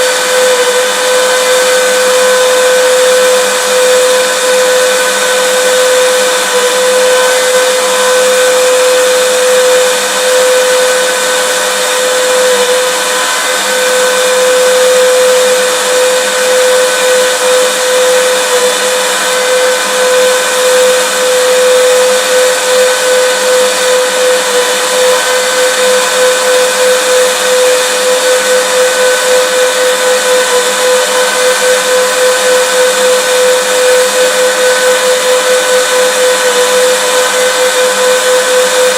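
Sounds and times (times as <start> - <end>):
vacuum cleaner motor running: 0.0 - 38.9.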